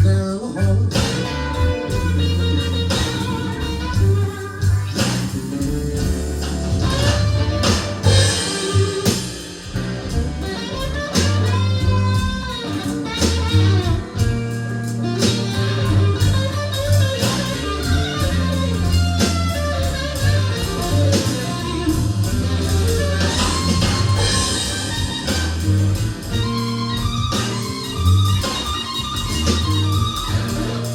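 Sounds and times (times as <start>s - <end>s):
bass: 0.0s - 30.9s
drums: 0.0s - 30.9s
lead guitar bending notes: 5.9s - 30.9s.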